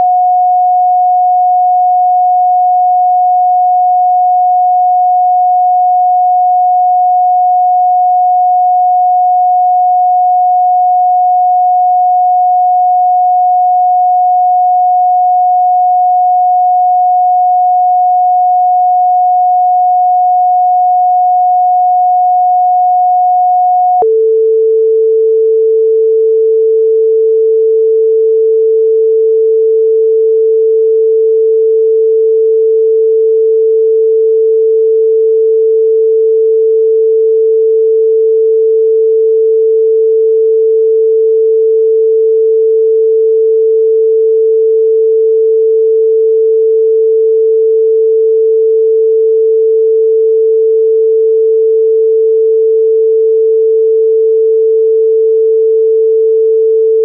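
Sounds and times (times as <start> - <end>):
electronic sine tone: 0.0 - 57.0.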